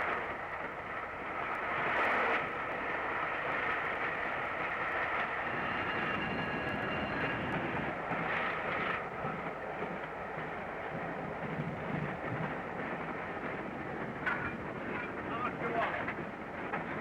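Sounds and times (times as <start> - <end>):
steam locomotive running: 0.0 - 17.0.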